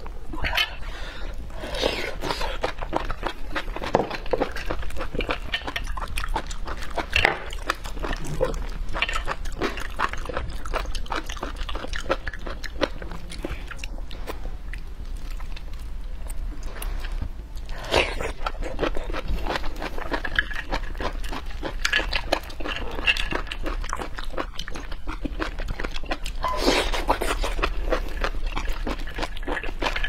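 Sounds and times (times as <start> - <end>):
wet chewing and lip-smacking: 1.8 - 30.0.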